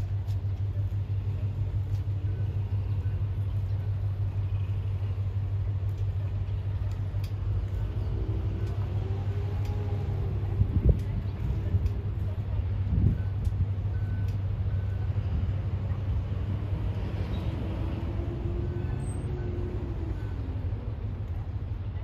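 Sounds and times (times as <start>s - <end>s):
pulsing engine rumble: 0.0s - 22.0s.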